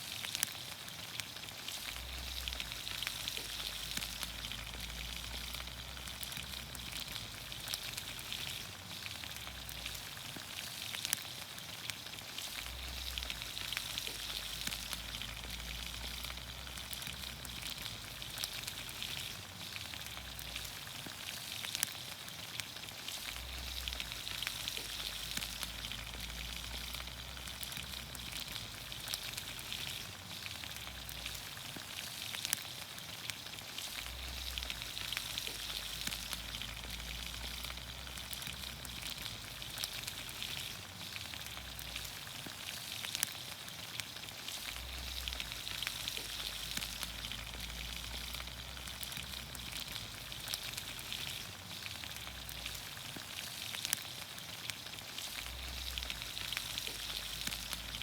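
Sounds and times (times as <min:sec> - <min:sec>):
vegetables sizzling in oil: 0:00.0 - 0:58.0.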